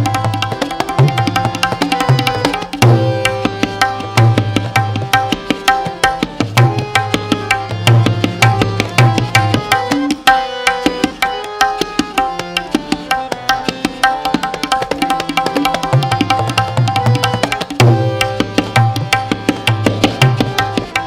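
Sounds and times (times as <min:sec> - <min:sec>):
rapid tabla treble strokes: 0:00.0 - 0:21.0.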